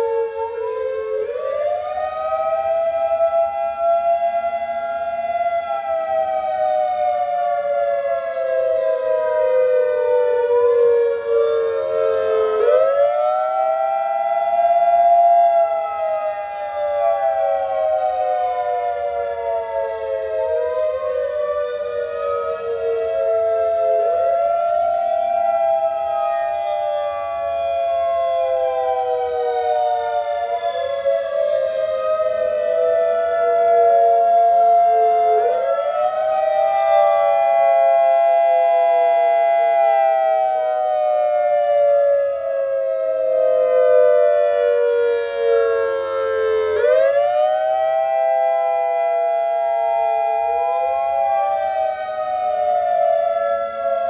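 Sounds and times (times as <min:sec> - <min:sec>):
rotating warning siren: 0:00.0 - 0:54.0.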